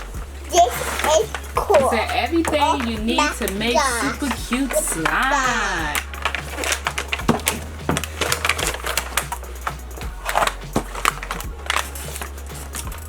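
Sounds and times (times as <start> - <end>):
plastic containers clicking and tapping: 0.0 - 13.0.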